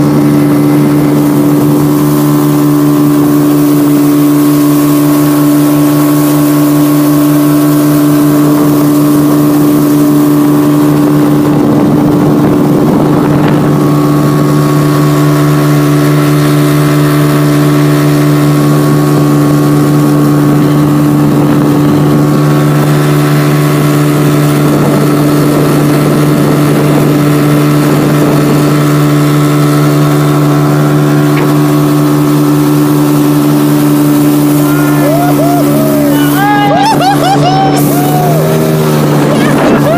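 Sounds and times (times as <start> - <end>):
motorboat engine droning: 0.0 - 39.9.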